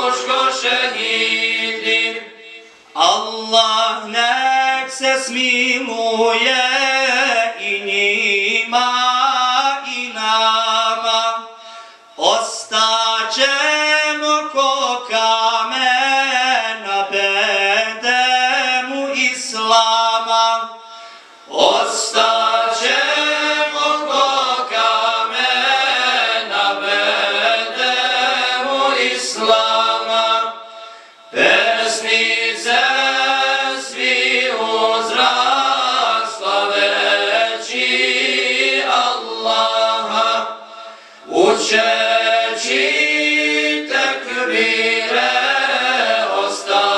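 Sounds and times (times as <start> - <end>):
men's choir singing a cappella: 0.0 - 11.6, 12.2 - 20.8, 21.5 - 46.9.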